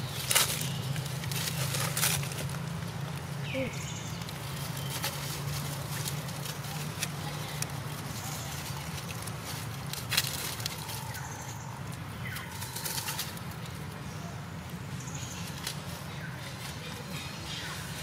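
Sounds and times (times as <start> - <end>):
dry leaves rustling and crackling: 0.0 - 18.0.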